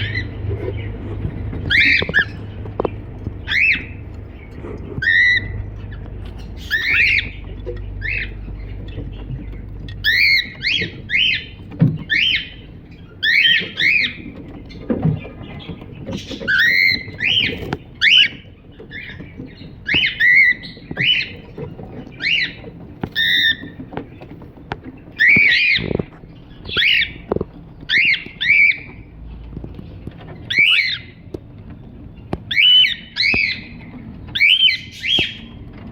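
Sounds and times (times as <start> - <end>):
cockatiel chirping: 1.6 - 23.8, 25.1 - 27.2, 27.9 - 29.0, 30.4 - 31.2, 32.4 - 35.6.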